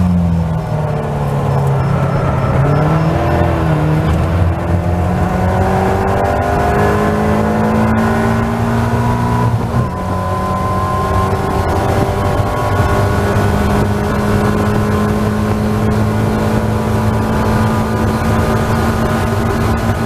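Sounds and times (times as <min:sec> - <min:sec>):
race car engine accelerating: 0:00.0 - 0:20.0
wind noise: 0:00.0 - 0:20.0.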